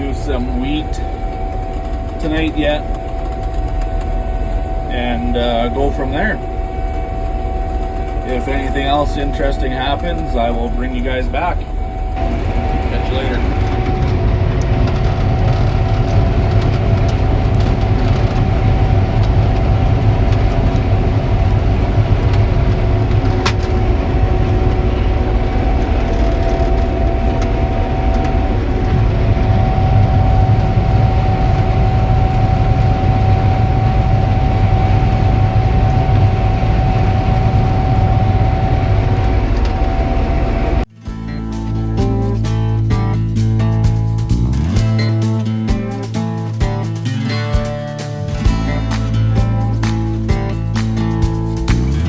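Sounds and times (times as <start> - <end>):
combine harvester droning: 0.0 - 52.0
machine whine: 0.0 - 52.0.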